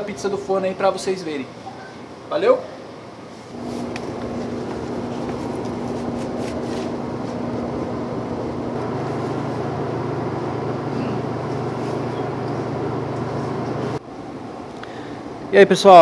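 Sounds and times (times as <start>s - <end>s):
pizza oven mechanical hum: 2.1s - 16.0s.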